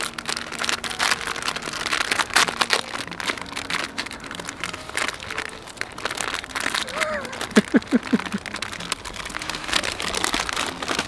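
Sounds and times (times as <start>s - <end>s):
dry leaves rustling underfoot: 0.0s - 11.0s
plastic packet crinkling: 0.0s - 11.0s.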